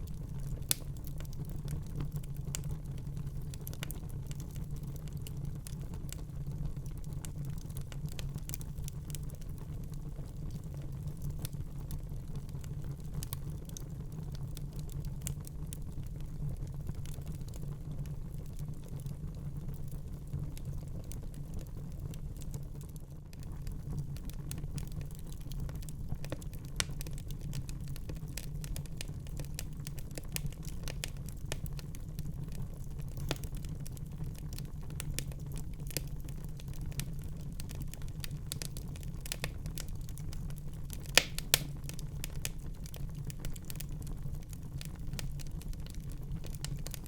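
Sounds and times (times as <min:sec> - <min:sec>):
fire crackling in a fireplace: 0:00.0 - 0:47.0.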